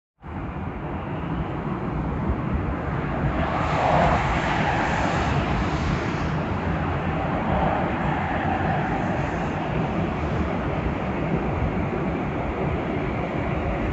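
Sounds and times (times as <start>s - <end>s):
jet plane passing: 0.3s - 13.9s.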